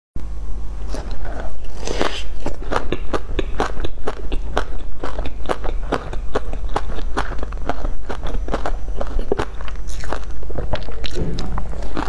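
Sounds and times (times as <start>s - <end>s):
biting into a bun: 0.8s - 12.0s
crisp chewing crunches: 0.8s - 12.0s.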